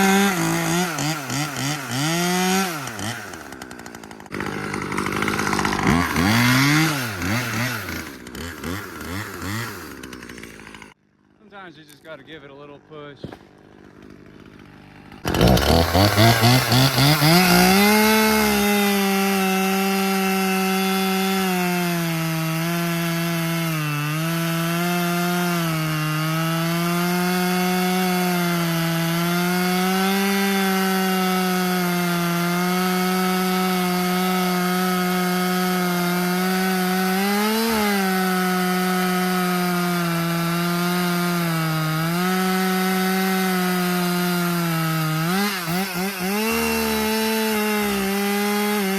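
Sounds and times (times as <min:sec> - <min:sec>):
chainsaw cutting wood: 0:00.0 - 0:11.4, 0:12.0 - 0:48.9.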